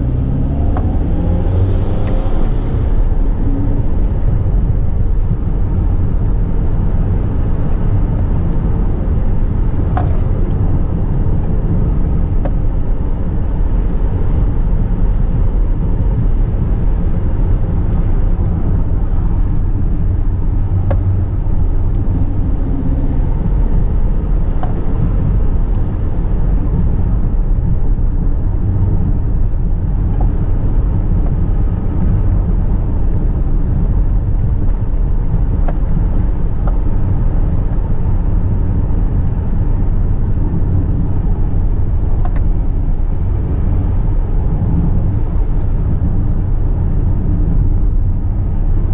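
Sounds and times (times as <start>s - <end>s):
car engine and tyre rumble: 0.0s - 48.9s.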